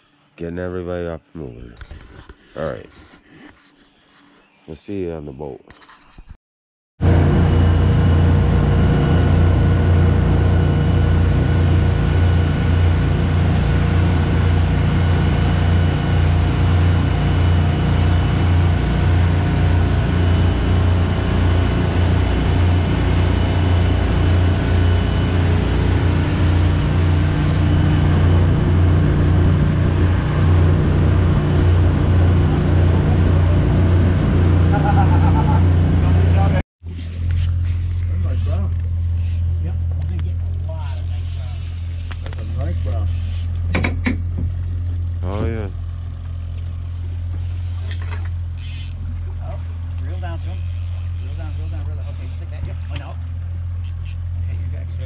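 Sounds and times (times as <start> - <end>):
boat engine drone: 7.0 - 55.0.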